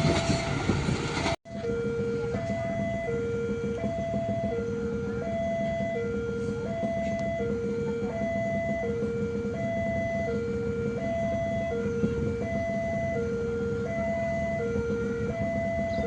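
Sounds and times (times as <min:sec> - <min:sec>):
level crossing two-note alarm: 0:01.5 - 0:16.0.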